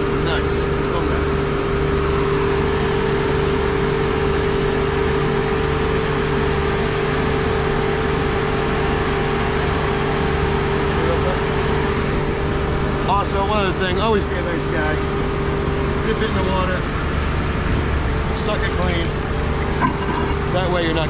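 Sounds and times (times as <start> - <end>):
vacuum pump humming: 0.0 - 21.0.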